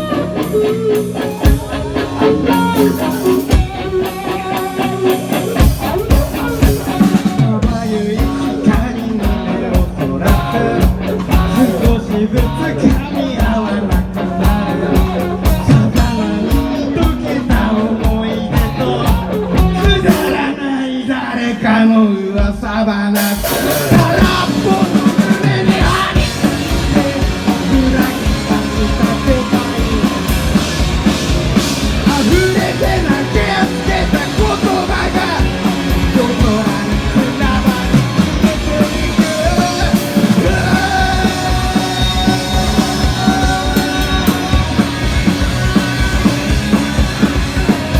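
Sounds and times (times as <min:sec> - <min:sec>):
drum kit: 0:00.0 - 0:20.6, 0:22.4 - 0:47.9
rock band playing: 0:00.0 - 0:20.9, 0:22.4 - 0:47.9
person singing: 0:00.0 - 0:47.9.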